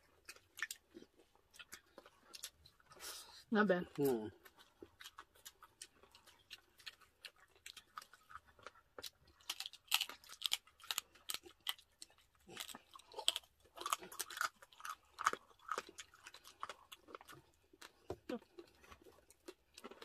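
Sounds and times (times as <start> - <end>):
chewing crispy food: 0.0 - 20.0.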